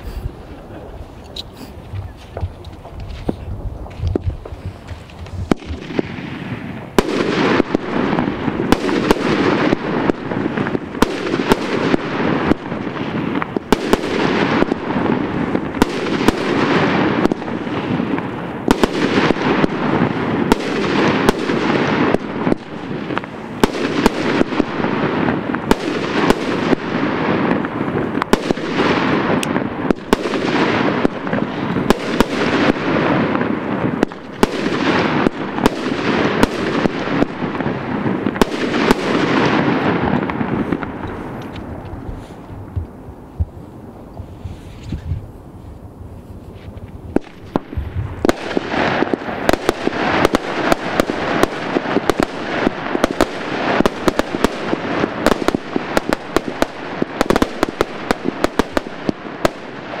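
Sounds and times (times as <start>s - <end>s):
fireworks bangs: 0.0s - 45.4s, 46.4s - 60.0s
fireworks crackling: 0.0s - 60.0s.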